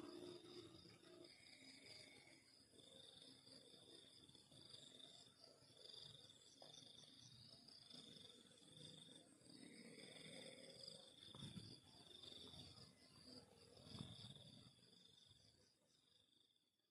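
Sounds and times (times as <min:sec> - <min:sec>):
crickets trilling: 0:00.0 - 0:16.5.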